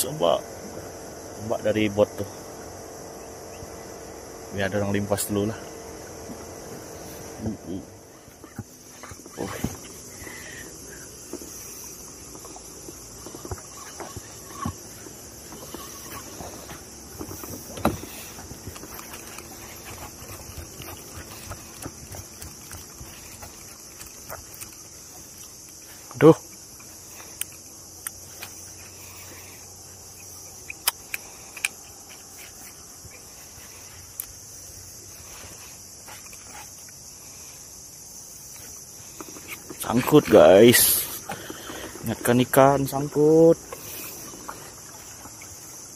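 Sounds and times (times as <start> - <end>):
steady high hiss: 0.0 - 21.7, 23.0 - 45.9
insects chirring: 0.0 - 45.9.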